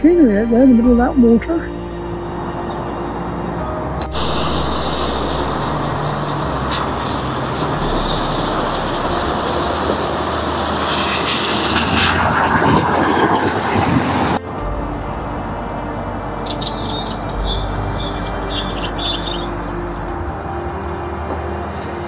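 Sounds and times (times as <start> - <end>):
vehicle passing on road: 2.0 - 22.0.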